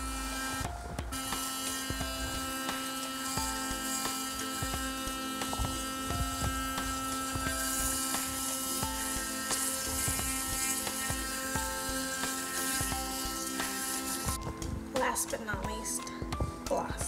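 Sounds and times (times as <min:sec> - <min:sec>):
electric toothbrush buzzing: 0:00.0 - 0:15.0.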